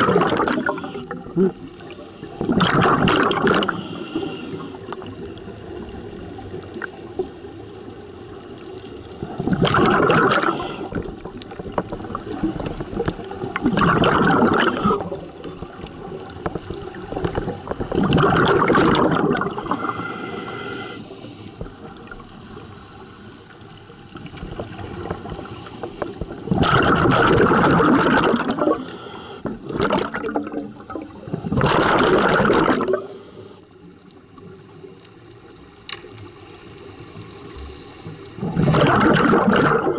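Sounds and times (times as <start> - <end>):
regulator bubbles rushing underwater: 0.0 - 39.9.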